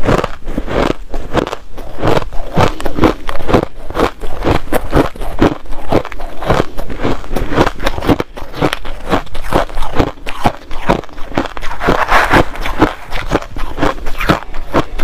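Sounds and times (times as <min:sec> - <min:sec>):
crushed ice being chewed: 0:00.0 - 0:15.0.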